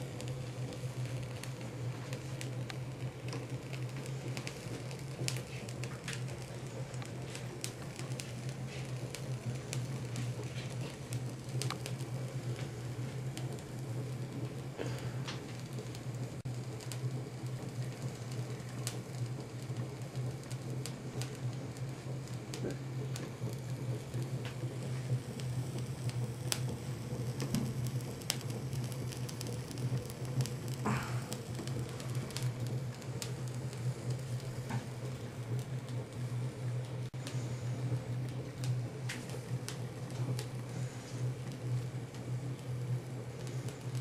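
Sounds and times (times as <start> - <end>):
small engine humming and hissing: 0.0 - 36.2, 37.0 - 44.0.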